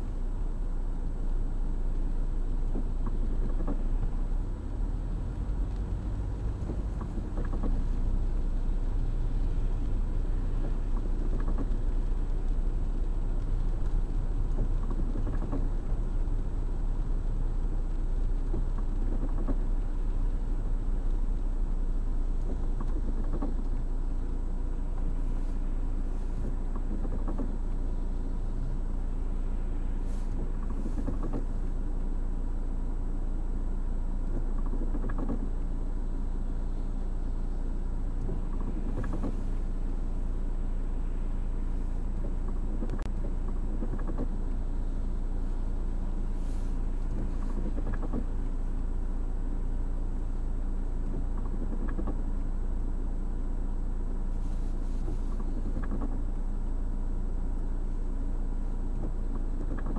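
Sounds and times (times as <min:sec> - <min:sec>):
engine and tyre rumble: 0:00.0 - 0:59.9
windscreen wiper sweep: 0:00.0 - 0:59.9.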